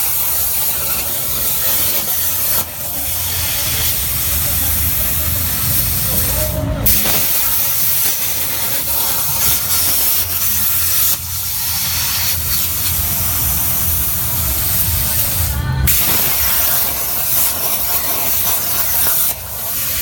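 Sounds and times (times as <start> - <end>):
plasma torch hissing: 0.0 - 20.0.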